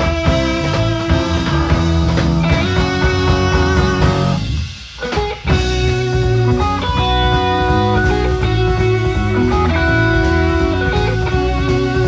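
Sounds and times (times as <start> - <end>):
prog-rock band playing: 0.0 - 12.0.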